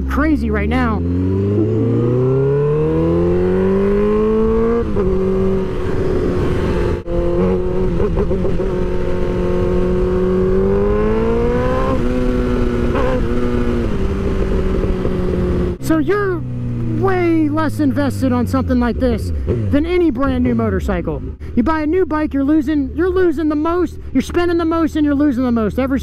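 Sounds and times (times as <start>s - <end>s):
motorcycle engine accelerating: 0.0s - 21.4s.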